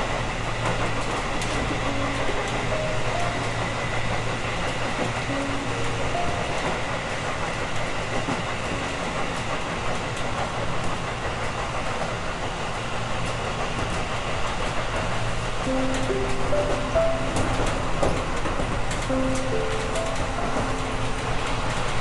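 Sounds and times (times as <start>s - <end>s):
train wheels rumbling on rail: 0.0s - 22.0s
wheels clicking over rail joints: 0.5s - 22.0s.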